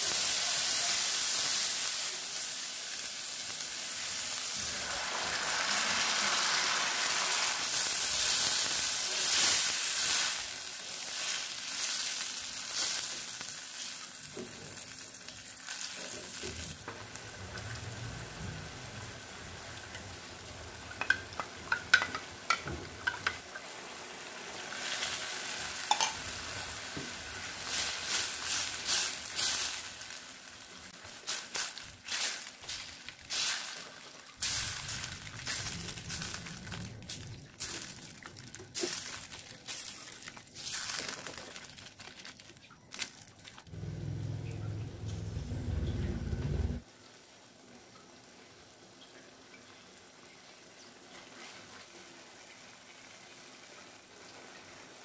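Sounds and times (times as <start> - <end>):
vegetables sizzling in pan: 0.0 - 55.0.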